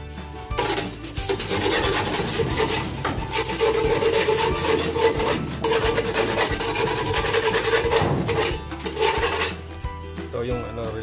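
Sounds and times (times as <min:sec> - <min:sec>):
scraping on wooden plywood: 0:00.5 - 0:09.7.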